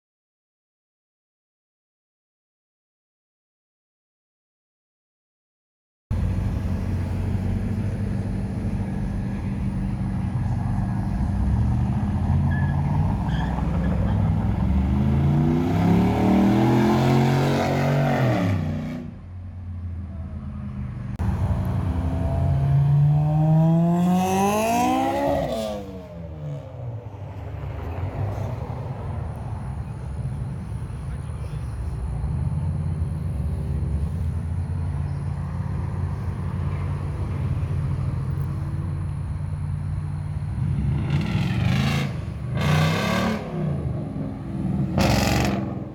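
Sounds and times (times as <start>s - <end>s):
car engines revving: 6.1s - 45.9s.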